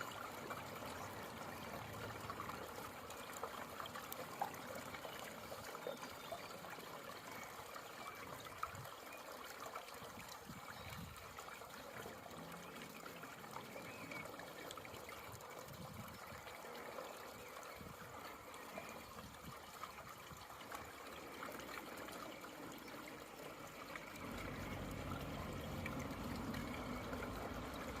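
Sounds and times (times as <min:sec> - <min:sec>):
water draining through drain grate: 0:00.0 - 0:28.0.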